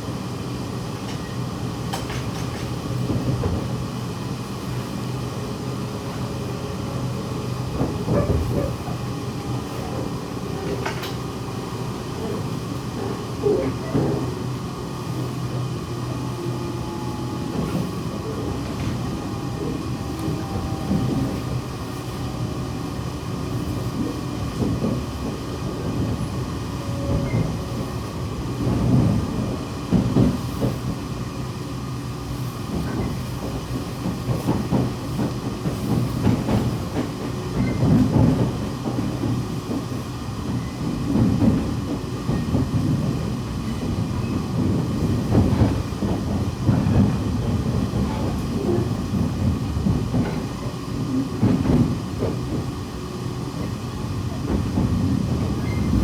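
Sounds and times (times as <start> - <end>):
train wheels rumbling on rail: 0.0 - 56.0
train knocks: 1.0 - 3.9, 5.8 - 31.4, 32.6 - 56.0.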